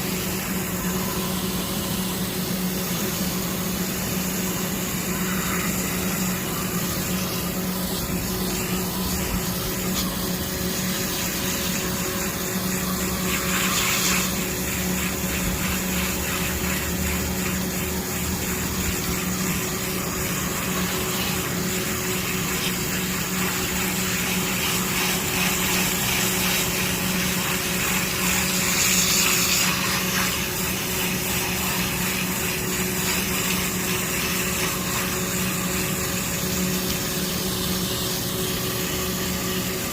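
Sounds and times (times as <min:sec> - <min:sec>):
pump motor humming: 0:00.0 - 0:39.9
water spray hissing: 0:05.1 - 0:37.4.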